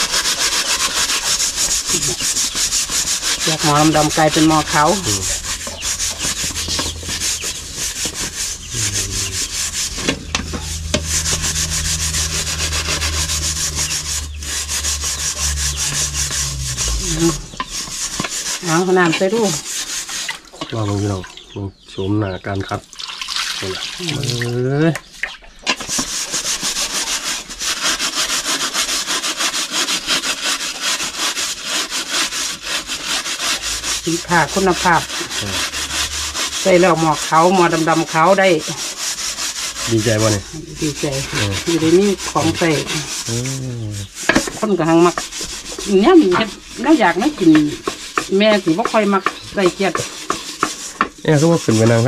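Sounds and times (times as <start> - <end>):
scouring pad scrubbing metal pan: 0.0 - 21.2, 25.7 - 52.0.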